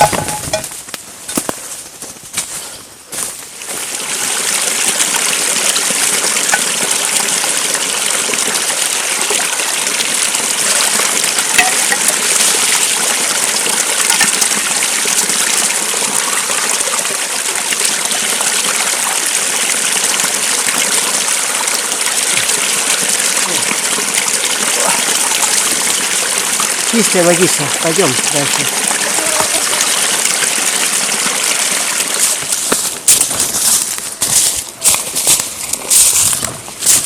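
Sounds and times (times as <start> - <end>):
stream rushing: 3.4 - 37.0.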